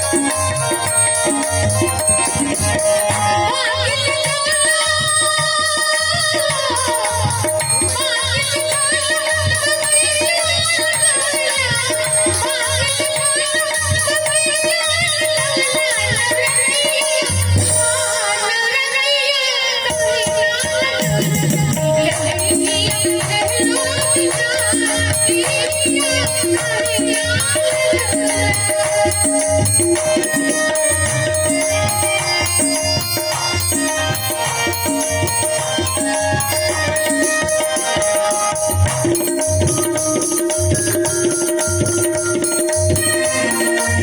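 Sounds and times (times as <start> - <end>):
instrumental accompaniment: 0.0 - 44.0.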